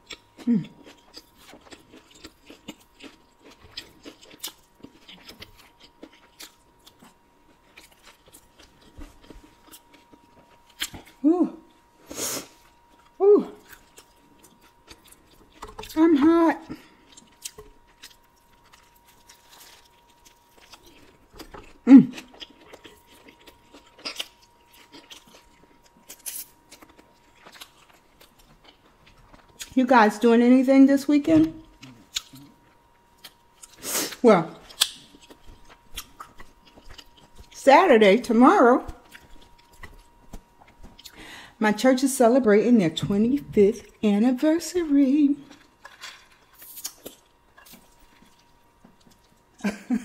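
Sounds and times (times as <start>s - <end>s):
close chewing of wet fruit: 0.0s - 29.8s, 31.5s - 41.6s, 45.4s - 49.6s.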